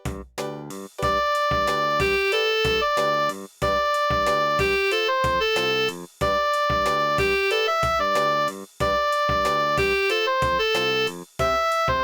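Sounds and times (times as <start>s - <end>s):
polyphonic phone ringtone: 1.0s - 12.0s.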